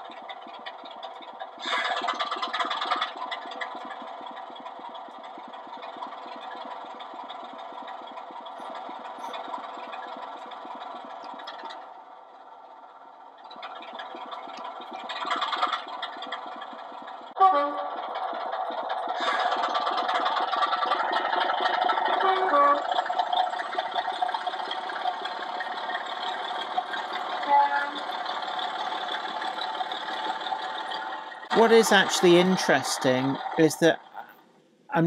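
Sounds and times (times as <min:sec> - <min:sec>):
model diesel engine sound: 0:00.0 - 0:35.0.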